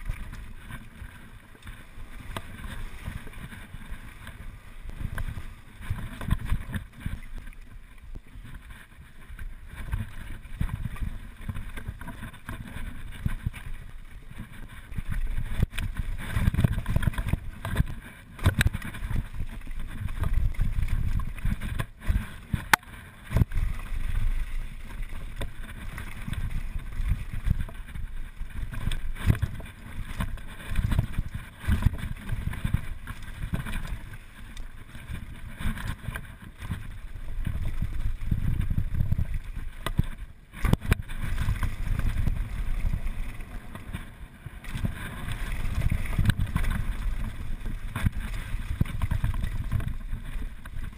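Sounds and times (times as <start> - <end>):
bike tyres rumbling and rattling: 0.0 - 50.9
wind buffeting microphone: 9.4 - 50.9.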